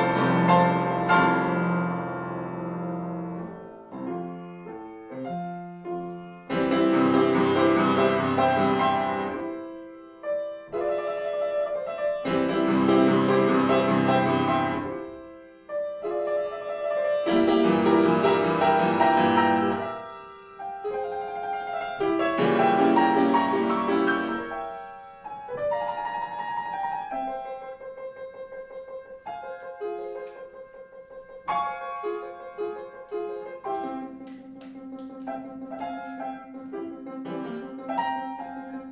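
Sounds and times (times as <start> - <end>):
piano chords: 0.0 - 38.9.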